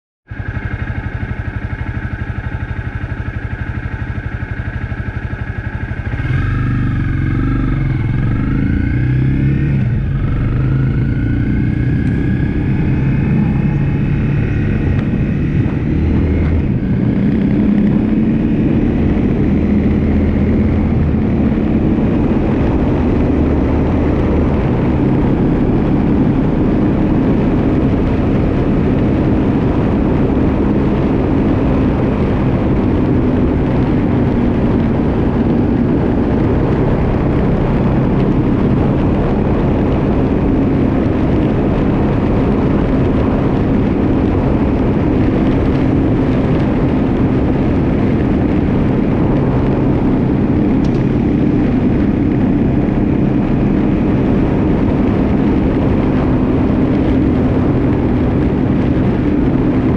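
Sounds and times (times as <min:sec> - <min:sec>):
motorcycle engine revving: 0:00.3 - 0:59.9.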